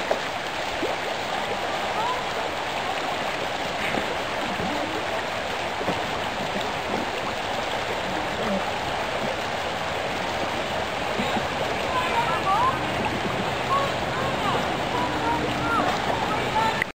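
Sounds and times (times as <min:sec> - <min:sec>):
river rushing over gravel: 0:00.0 - 0:16.9.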